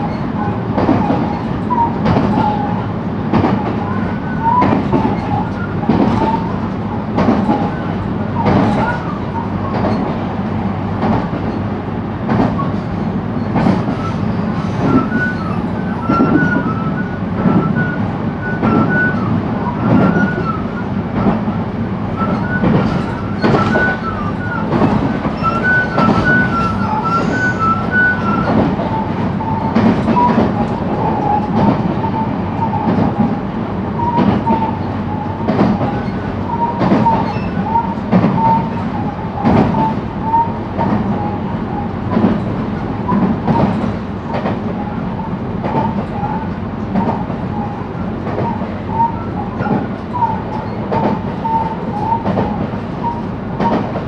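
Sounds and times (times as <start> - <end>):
wheels clacking over rail joints: 0.0 - 10.4, 11.0 - 11.6, 12.2 - 21.5, 22.2 - 54.0
train running gear rumble: 0.0 - 54.0.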